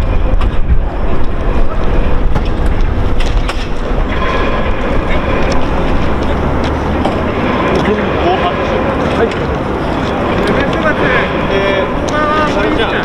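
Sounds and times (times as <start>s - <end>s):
fire engines rumbling: 0.0s - 13.0s.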